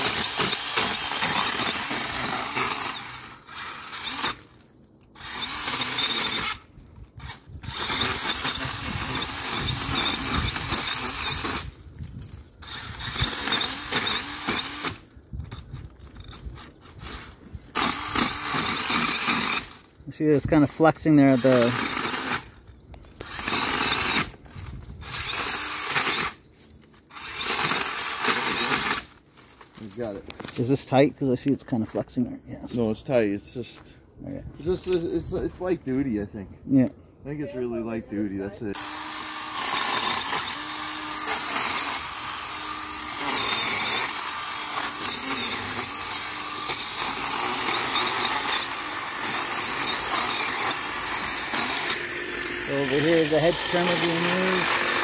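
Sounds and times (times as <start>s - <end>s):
small chainsaw cutting stems: 0.0s - 19.9s, 20.6s - 30.8s, 38.7s - 55.0s.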